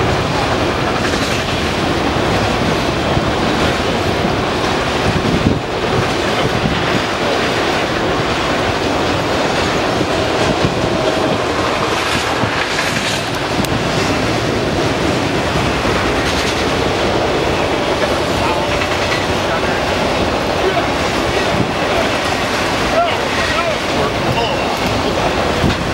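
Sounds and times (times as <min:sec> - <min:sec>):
freight train rumbling past: 0:00.0 - 0:25.9
steel wheels clattering on rails: 0:00.0 - 0:25.9.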